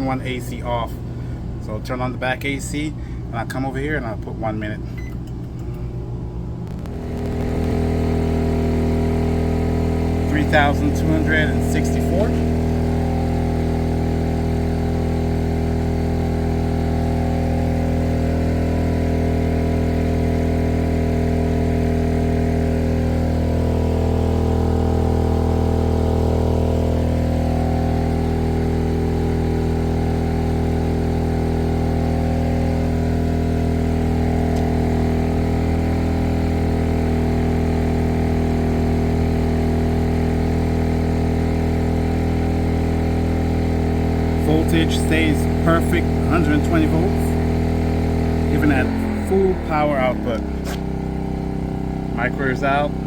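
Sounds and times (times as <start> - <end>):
generator engine running: 0.0 - 53.0.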